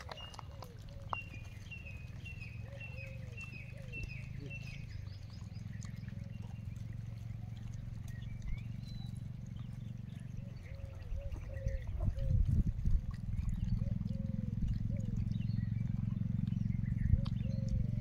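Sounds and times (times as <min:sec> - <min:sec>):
bird chirping: 0:00.0 - 0:12.4, 0:13.5 - 0:18.0
steady low rumble: 0:00.0 - 0:18.0.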